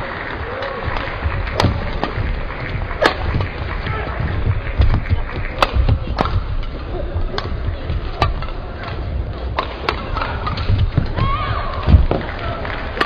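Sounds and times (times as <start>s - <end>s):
crowd murmur: 0.0s - 13.0s
rackets hitting shuttlecock: 0.6s - 13.0s.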